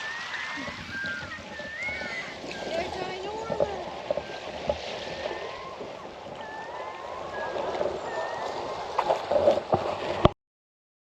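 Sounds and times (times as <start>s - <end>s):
thin gliding tones: 0.0s - 10.3s
water noise: 0.0s - 10.4s
wind: 0.0s - 10.4s.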